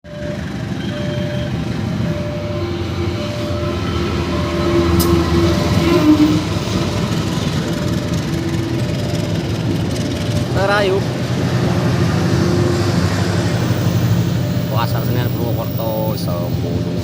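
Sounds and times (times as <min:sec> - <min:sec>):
train wheels rumbling on rails: 0:00.1 - 0:17.0.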